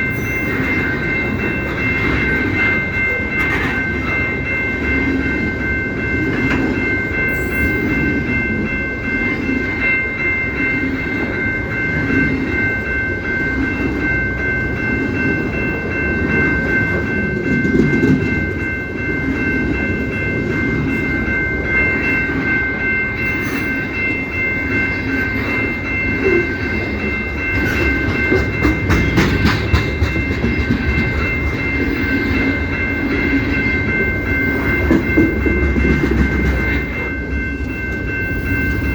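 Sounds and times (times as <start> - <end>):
high-pitched ringing tones: 0.0 - 38.9
train rumbling over rail joints: 0.0 - 38.9.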